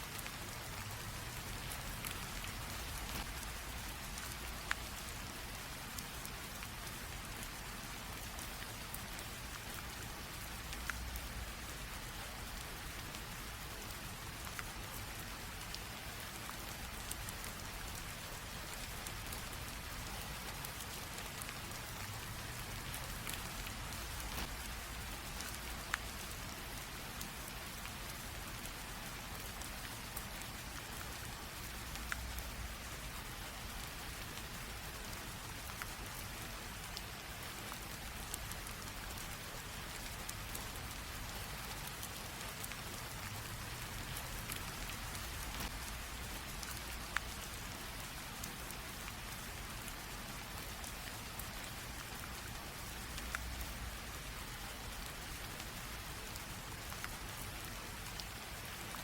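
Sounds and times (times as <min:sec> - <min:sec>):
light rain drizzle: 0:00.0 - 0:59.0
raindrop ticks: 0:00.1 - 0:59.0.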